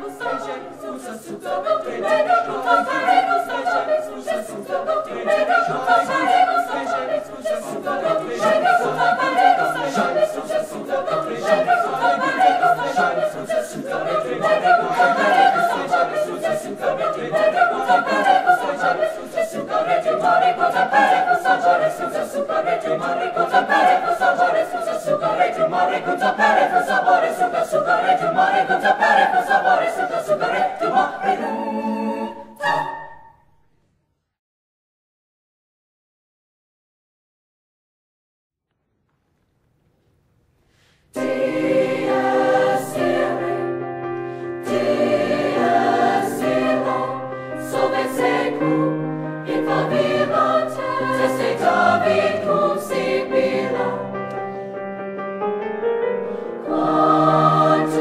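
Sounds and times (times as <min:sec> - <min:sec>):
school choir singing: 0:00.0 - 0:33.4, 0:41.2 - 0:44.0, 0:44.6 - 0:54.6, 0:56.2 - 0:58.0.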